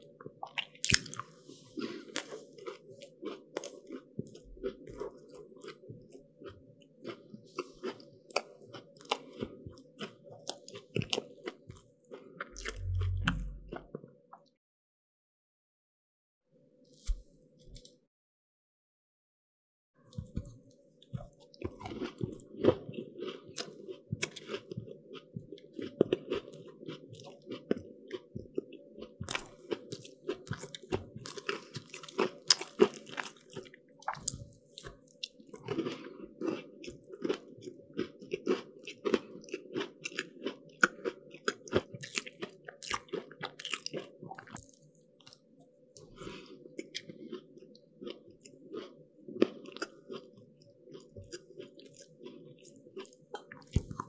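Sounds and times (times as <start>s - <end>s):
crunching and chewing pastry: 0.0s - 13.1s, 20.1s - 54.0s.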